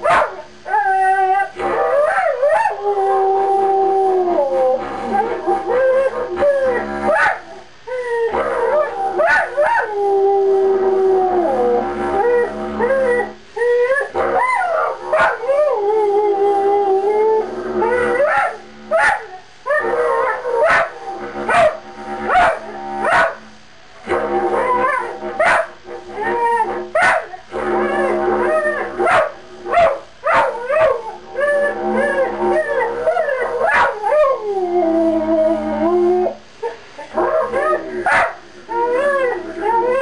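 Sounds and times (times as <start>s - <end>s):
dog howling: 0.0s - 23.4s, 24.5s - 40.0s
didgeridoo drone: 0.6s - 19.0s, 19.6s - 23.1s, 24.0s - 29.8s, 30.5s - 36.4s, 37.0s - 40.0s.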